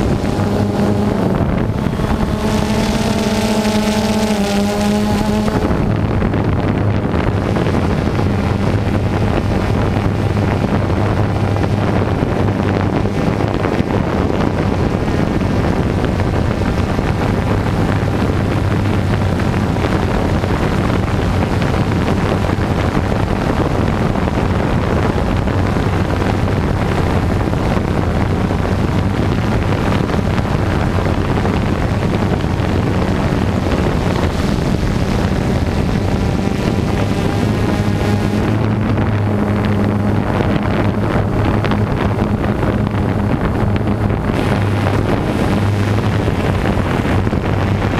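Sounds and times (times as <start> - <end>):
drone propellers buzzing: 0.0 - 47.9
steady low hum: 0.0 - 47.9.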